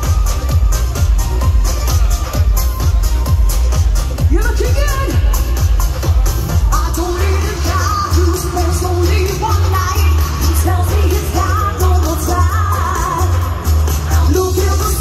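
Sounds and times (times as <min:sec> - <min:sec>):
heavy bass beat: 0:00.0 - 0:15.0
pop song singing: 0:00.0 - 0:15.0.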